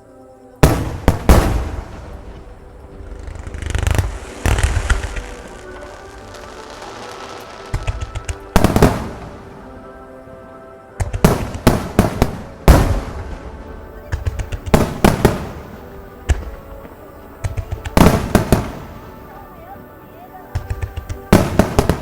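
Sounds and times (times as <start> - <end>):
fireworks bursting: 0.6 - 22.0.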